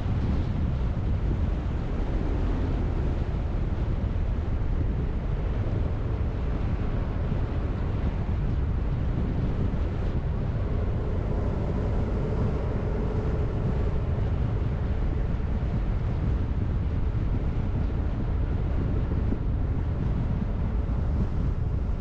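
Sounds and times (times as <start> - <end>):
car engine and tyres rumbling: 0.0 - 22.0
faint hum: 0.0 - 22.0
wind noise: 0.0 - 22.0.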